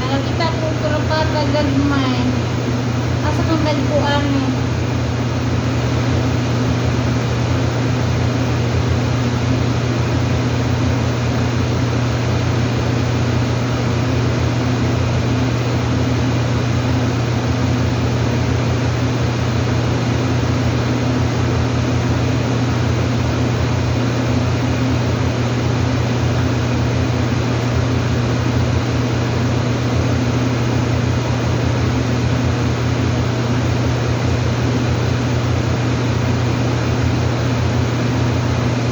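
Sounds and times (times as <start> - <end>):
mechanical hum with low drone: 0.0 - 38.9.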